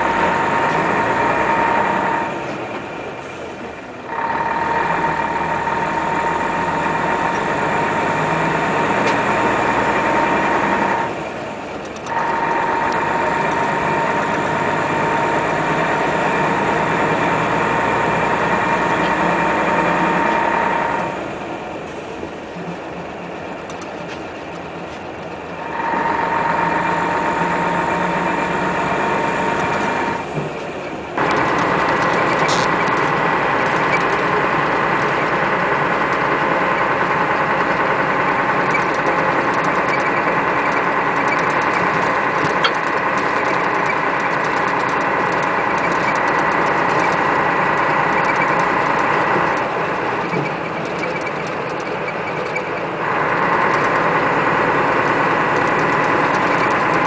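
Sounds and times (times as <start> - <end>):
bus engine high whine: 0.0 - 57.0.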